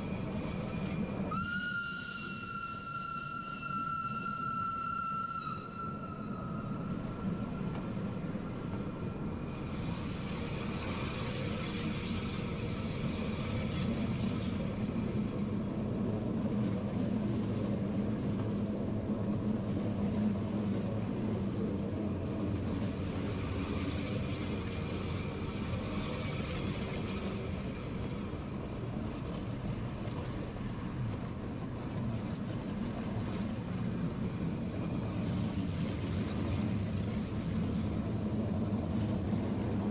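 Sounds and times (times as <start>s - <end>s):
electric train humming: 0.0s - 39.9s.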